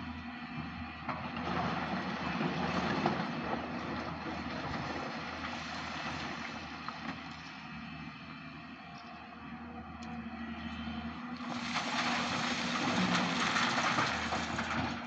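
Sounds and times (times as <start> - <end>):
broad mechanical noise: 0.0 - 15.0
heavy machinery engine drone: 0.0 - 15.0.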